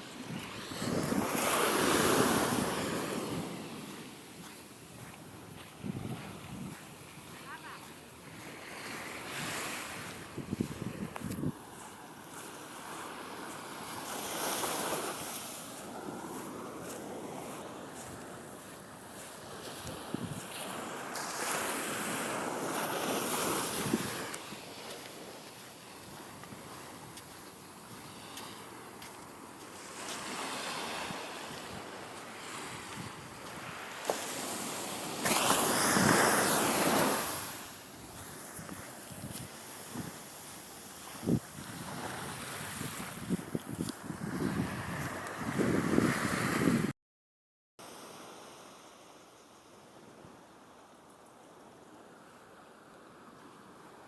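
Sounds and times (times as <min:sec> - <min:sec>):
ocean surf washing ashore: 0:00.0 - 0:46.9.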